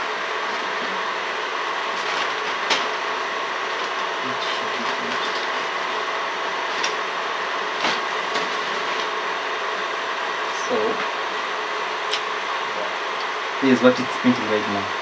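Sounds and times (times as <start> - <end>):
printer motors whirring: 0.0 - 15.0.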